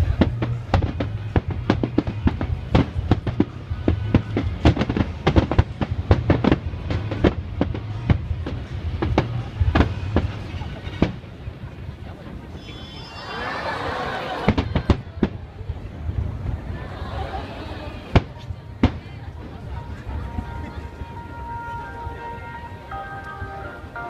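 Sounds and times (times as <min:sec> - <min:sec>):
fireworks bangs and crackling: 0:00.0 - 0:13.2, 0:14.2 - 0:22.3.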